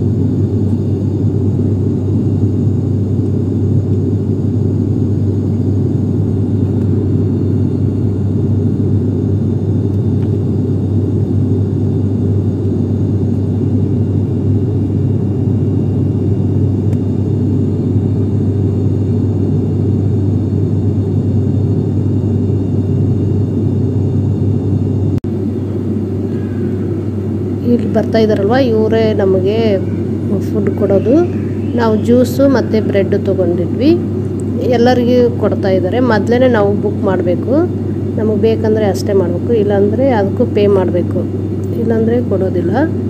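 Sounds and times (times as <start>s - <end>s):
airliner cabin drone: 0.0s - 43.0s.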